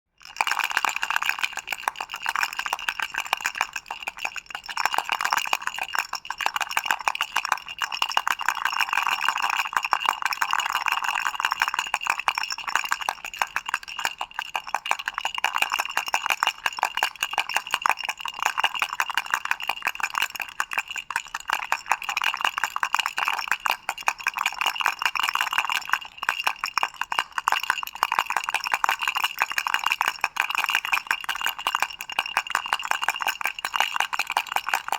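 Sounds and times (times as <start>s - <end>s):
toy baby rattle shaken: 0.2s - 34.9s.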